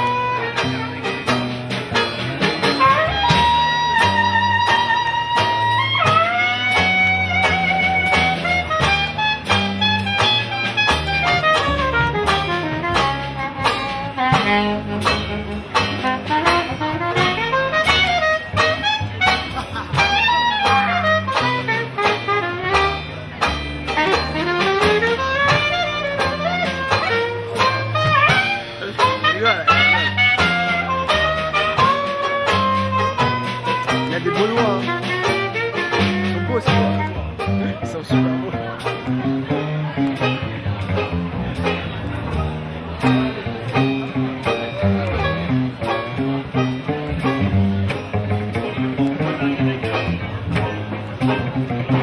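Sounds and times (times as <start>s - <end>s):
jazz horn playing runs: 0.0s - 52.0s
steady drum beat: 0.0s - 52.0s
walking bass line: 0.0s - 52.0s.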